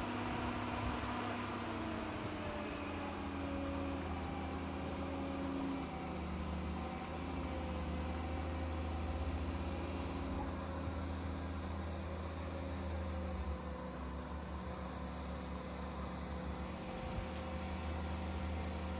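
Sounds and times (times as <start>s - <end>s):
engine humming: 0.0s - 18.9s.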